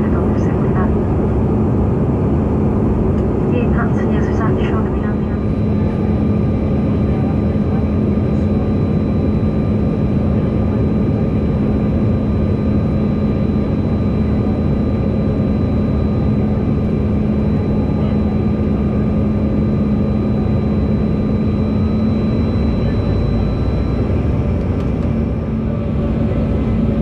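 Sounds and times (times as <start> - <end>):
constant low hum: 0.0 - 27.0
jet cabin rushing drone: 0.0 - 27.0
faint high whining tones: 3.6 - 26.8.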